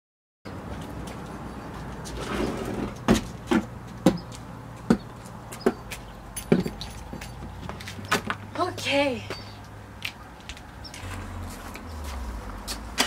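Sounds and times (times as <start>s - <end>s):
footsteps on concrete: 0.5s - 13.0s.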